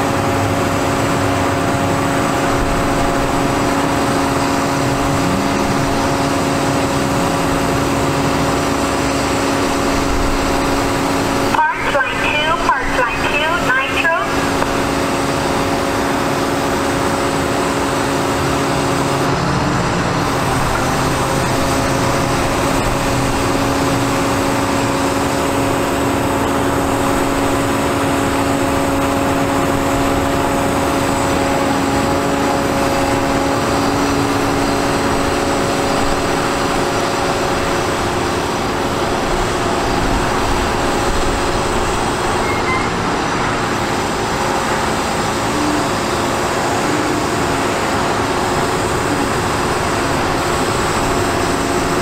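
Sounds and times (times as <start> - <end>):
diesel engine droning hum: 0.0 - 52.0.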